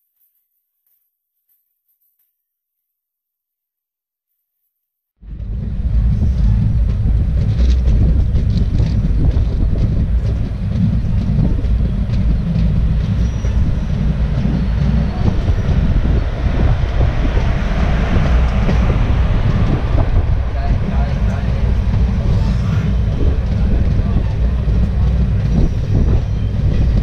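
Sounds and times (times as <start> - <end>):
passing train rushing: 5.2 - 27.0
train wheels rumbling on rails: 5.2 - 27.0
wind on microphone: 5.2 - 27.0.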